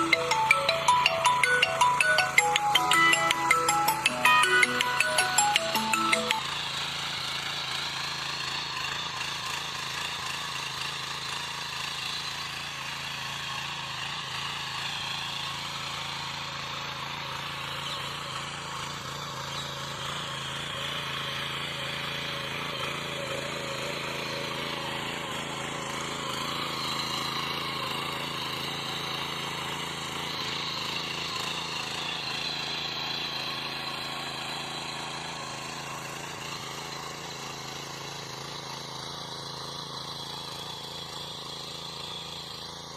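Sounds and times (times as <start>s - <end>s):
small tiller engine running: 0.0s - 42.9s.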